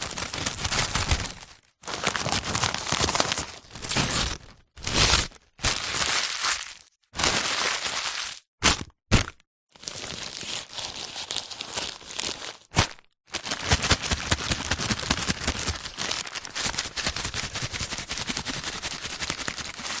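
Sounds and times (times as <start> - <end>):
paper bag crumpling: 0.0 - 8.5, 9.8 - 20.0
sharp paper crack: 0.0 - 20.0.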